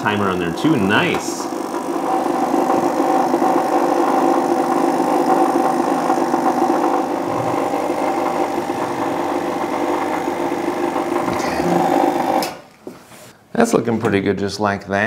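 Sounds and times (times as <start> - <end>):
espresso machine pump humming: 0.0 - 12.6.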